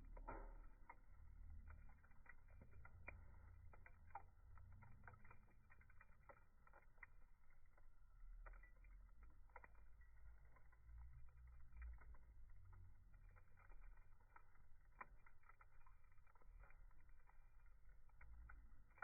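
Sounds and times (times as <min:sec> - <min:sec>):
campfire crackling: 0:00.0 - 0:19.0
low steady rumble: 0:00.0 - 0:19.0.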